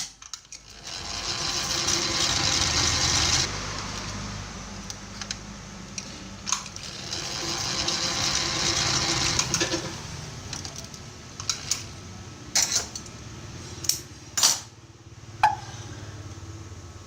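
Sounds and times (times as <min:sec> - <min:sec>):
fan parts hissing and whirring: 0:00.0 - 0:17.0.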